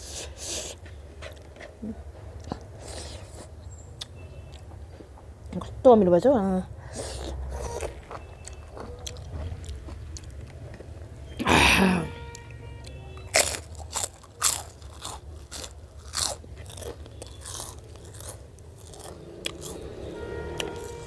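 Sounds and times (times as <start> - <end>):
crunching and chewing food: 0.0 - 5.8, 6.7 - 11.4, 12.3 - 21.0.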